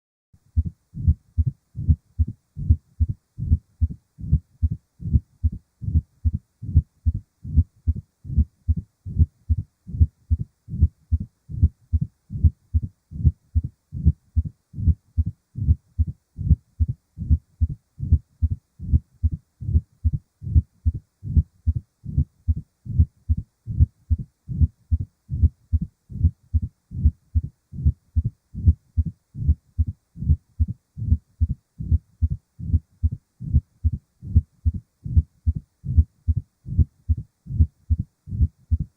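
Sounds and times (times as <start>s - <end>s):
heartbeat through stethoscope: 0.5s - 38.9s.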